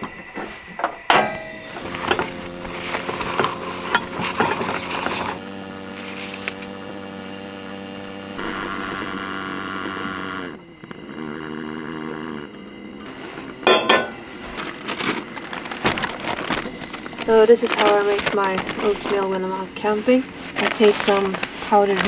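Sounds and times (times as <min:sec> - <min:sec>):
coffee things clinking and rustling: 0:00.0 - 0:06.8, 0:10.6 - 0:22.0
camping stove gas hissing: 0:00.0 - 0:22.0.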